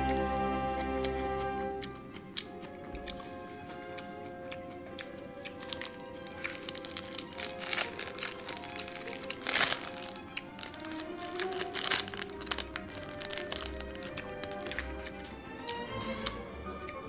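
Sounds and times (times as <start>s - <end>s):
background music with held notes: 0.0s - 17.0s.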